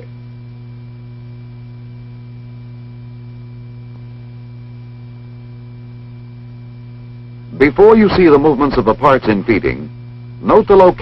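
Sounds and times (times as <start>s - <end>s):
low electrical hum with hiss: 0.0s - 11.0s.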